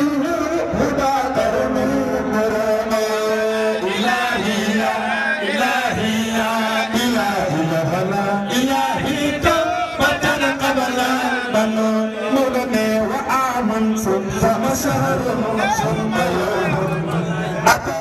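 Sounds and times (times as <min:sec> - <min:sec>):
lead voice singing: 0:00.0 - 0:18.0
men chanting religious song: 0:00.0 - 0:18.0.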